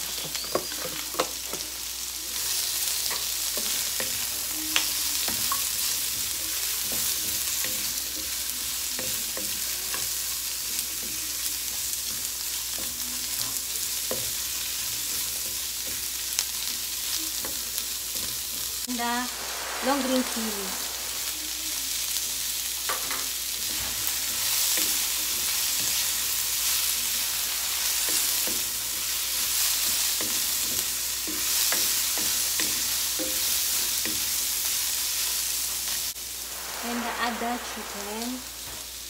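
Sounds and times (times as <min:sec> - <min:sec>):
onions sizzling in hot oil: 0:00.0 - 0:39.0.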